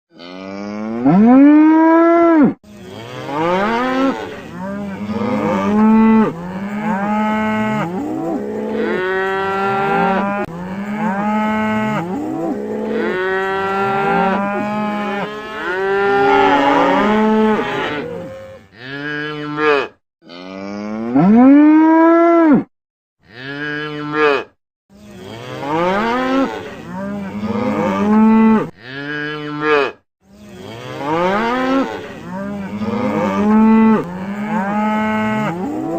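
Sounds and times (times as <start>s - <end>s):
cattle mooing: 0.1s - 22.6s, 25.2s - 35.9s.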